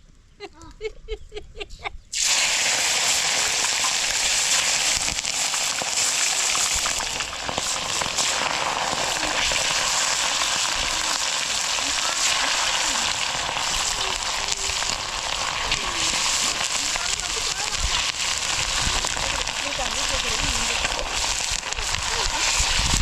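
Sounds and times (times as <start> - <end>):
food frying in hot oil: 2.1 - 23.0.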